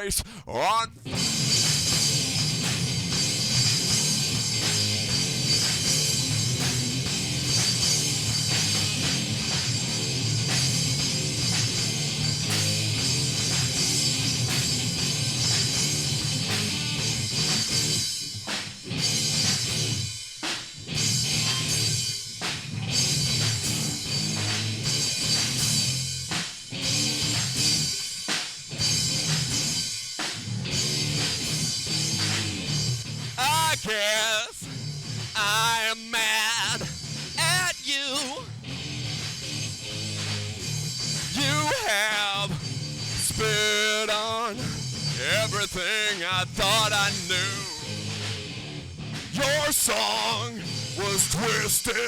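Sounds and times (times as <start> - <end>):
rock band playing: 1.0 - 52.0.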